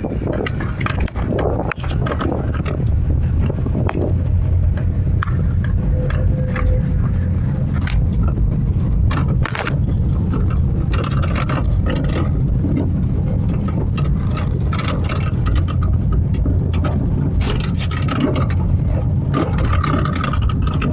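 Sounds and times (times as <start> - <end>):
clunks and rattles from car: 0.0 - 20.9
road and tyre rumble: 0.0 - 20.9.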